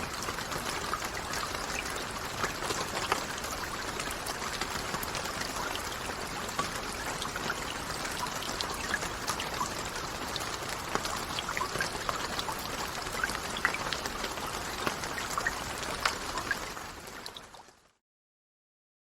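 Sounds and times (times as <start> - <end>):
steady rain with ticking drops: 0.0 - 18.0.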